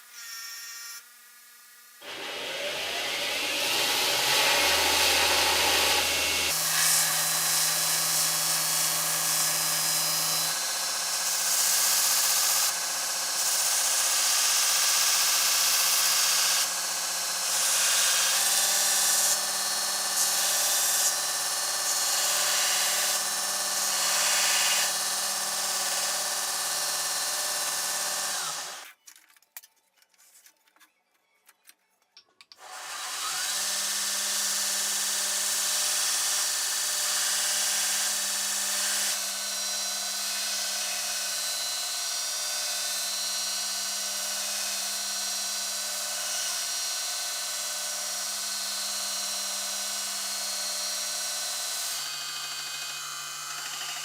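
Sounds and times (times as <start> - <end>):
power tool grinding: 2.0 - 14.0, 16.2 - 28.9, 32.6 - 54.0.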